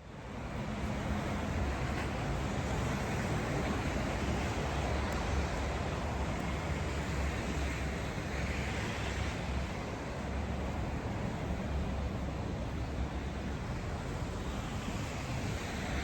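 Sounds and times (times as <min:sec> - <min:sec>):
traffic on a snowy street: 0:00.0 - 0:16.0.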